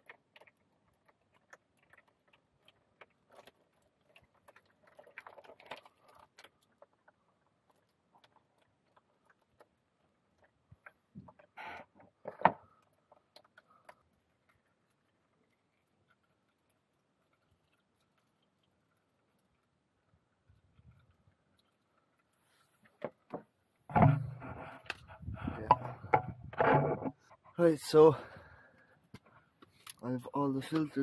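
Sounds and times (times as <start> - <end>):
oil dripping: 0.0 - 26.6.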